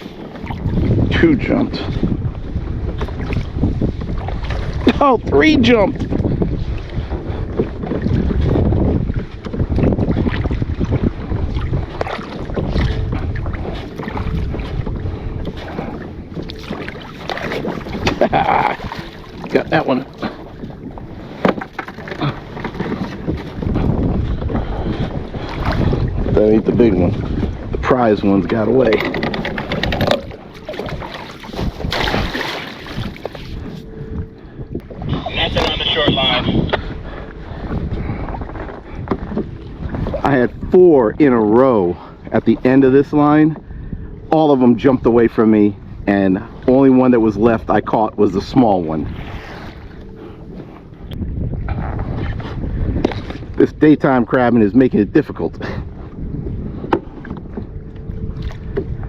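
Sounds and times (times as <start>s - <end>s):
water splashing against kayak hull: 0.0s - 59.0s
wind buffeting microphone: 0.0s - 59.0s.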